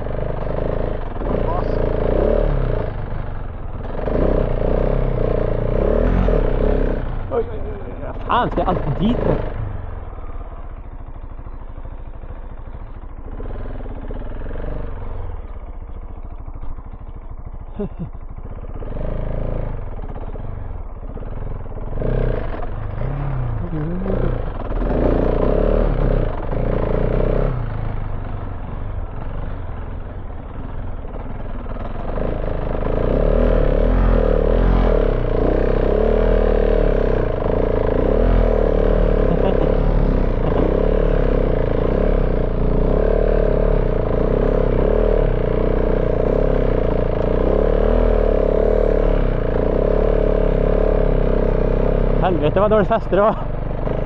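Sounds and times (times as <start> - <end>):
motorcycle engine revving hard: 0.0 - 16.7, 17.4 - 54.0.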